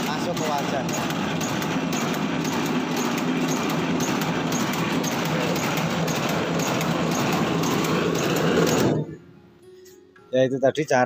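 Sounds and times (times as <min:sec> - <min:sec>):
machine motor and cutter blades: 0:00.0 - 0:09.2.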